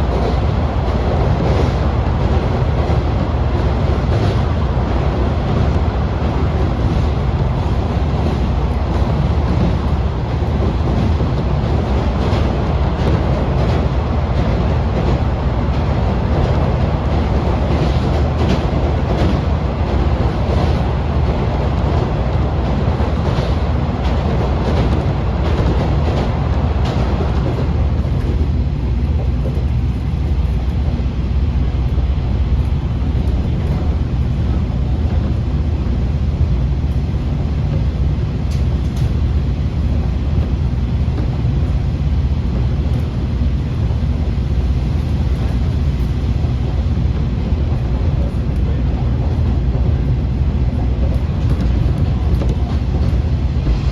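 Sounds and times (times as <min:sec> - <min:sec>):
diesel railcar engine and wheels rumbling: 0:00.0 - 0:53.9.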